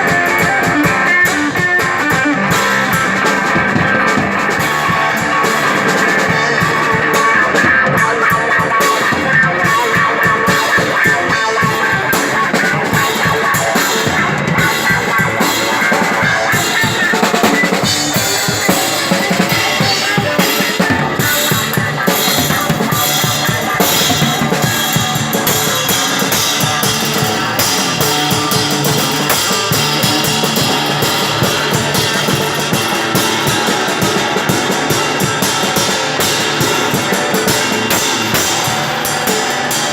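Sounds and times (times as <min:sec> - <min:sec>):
drum kit played busily: 0:00.0 - 0:39.9
sustained electric guitar: 0:00.0 - 0:39.9.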